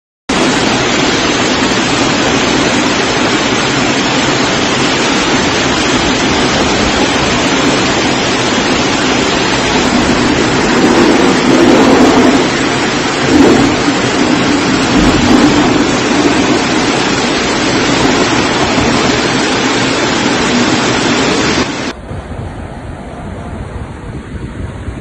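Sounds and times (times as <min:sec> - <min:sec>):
floodwater rushing: 0:00.3 - 0:22.0.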